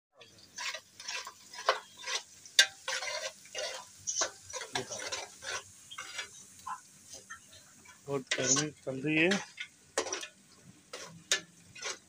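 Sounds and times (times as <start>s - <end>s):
metal spoon stirring frying onions: 0.2s - 12.0s.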